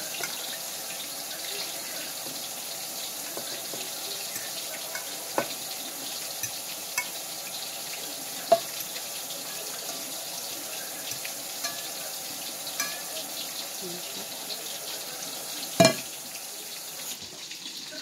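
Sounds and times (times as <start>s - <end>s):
wok simmering hiss: 0.0s - 18.0s.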